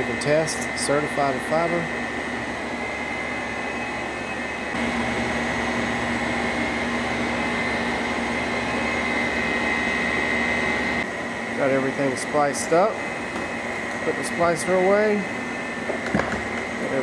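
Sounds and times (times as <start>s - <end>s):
air handling equipment hum: 0.0s - 17.0s
constant high whine: 0.0s - 17.0s.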